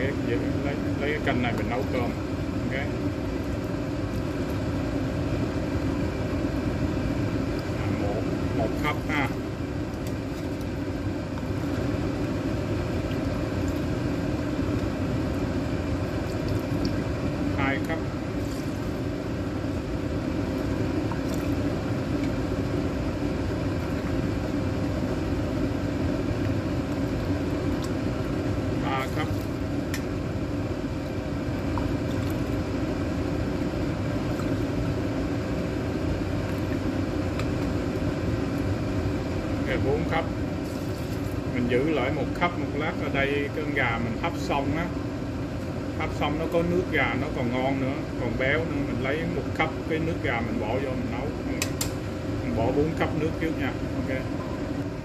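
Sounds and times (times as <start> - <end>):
gas burner roaring: 0.0 - 55.0
pot boiling: 0.0 - 55.0.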